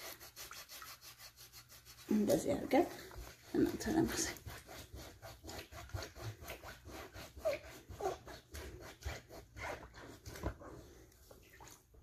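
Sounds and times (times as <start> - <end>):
foot scrubber rasping on skin: 0.0 - 10.4.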